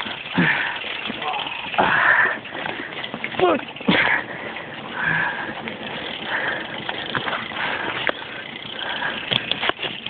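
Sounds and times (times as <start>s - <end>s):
bike knocking and rattling: 0.0s - 10.0s
bike tyres rushing on dirt: 0.0s - 10.0s.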